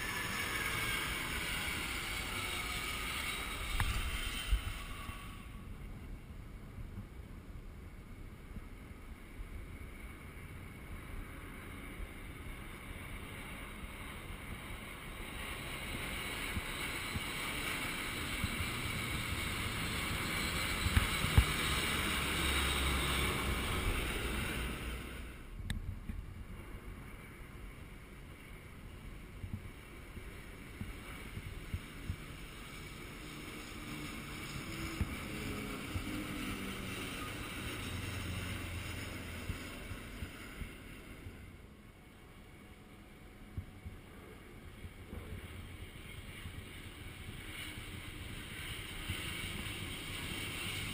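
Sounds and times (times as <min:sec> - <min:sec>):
jet aircraft flying over: 0:00.0 - 0:50.9.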